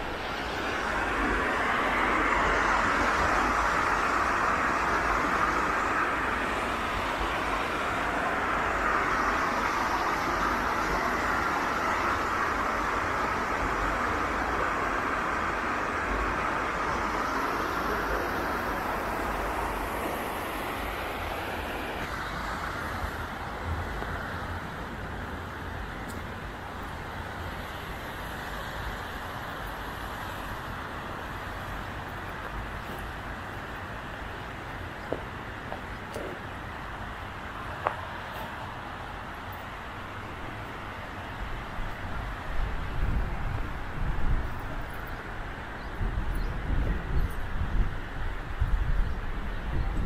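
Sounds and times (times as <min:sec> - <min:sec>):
wind noise: 0:00.0 - 0:50.0.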